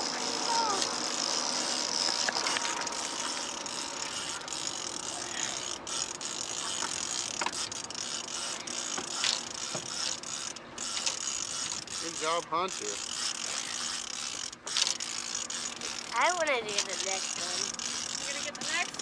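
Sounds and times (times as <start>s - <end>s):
fishing reel ratcheting and whirring: 0.0s - 19.0s.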